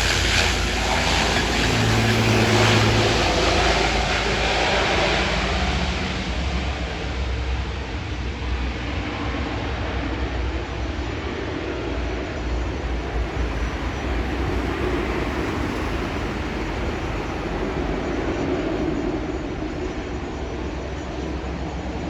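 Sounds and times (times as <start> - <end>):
airliner engine rumble and roar: 0.0 - 22.0.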